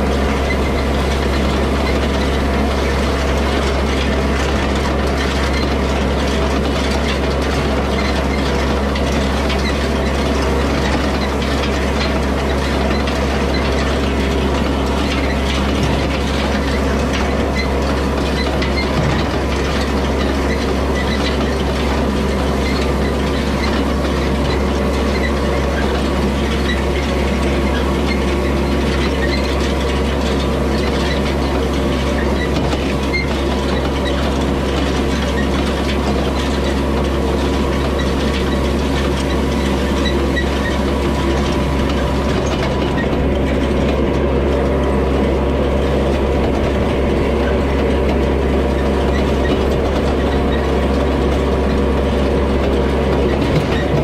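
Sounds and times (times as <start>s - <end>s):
hay rake rattling and clicking: 0.0s - 54.0s
tractor diesel engine running: 0.0s - 54.0s.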